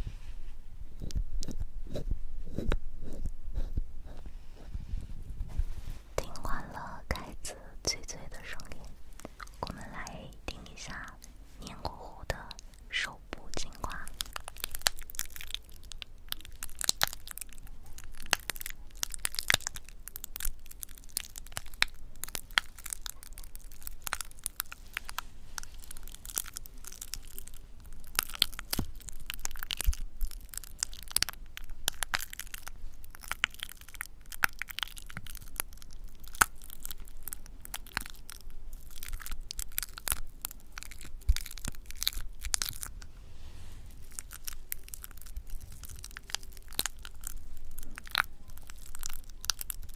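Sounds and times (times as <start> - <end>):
close crackles and crunches: 5.4 - 49.9.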